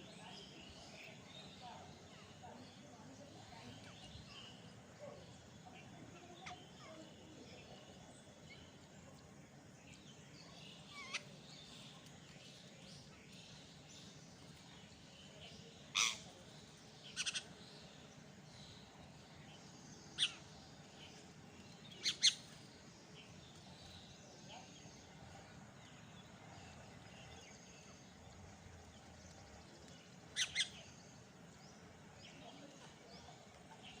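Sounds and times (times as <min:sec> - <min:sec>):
parrots chirping faintly: 0:00.0 - 0:34.0.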